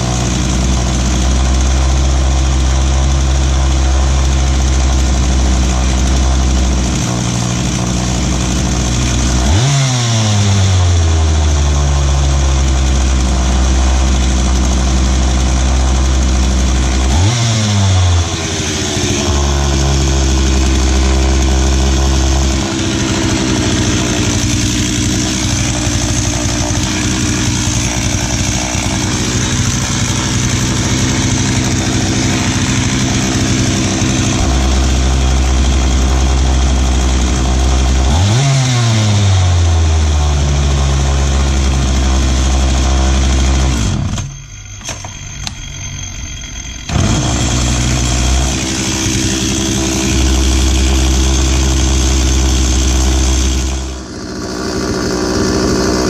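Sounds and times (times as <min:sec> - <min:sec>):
chainsaw engine idling and revving: 0:00.0 - 0:56.0.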